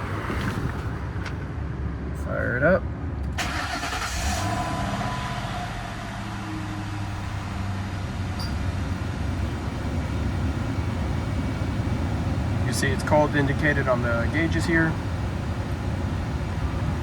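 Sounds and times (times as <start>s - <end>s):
car engine idling: 1.4s - 17.0s.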